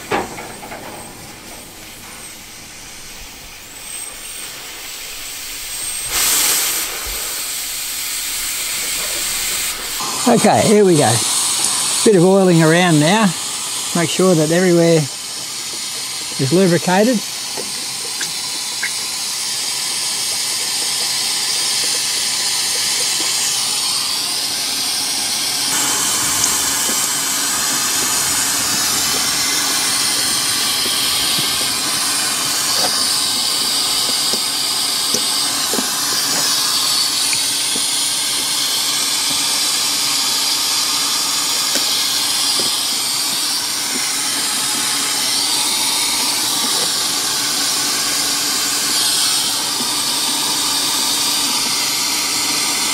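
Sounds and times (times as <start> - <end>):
steam hissing: 0.0 - 52.9.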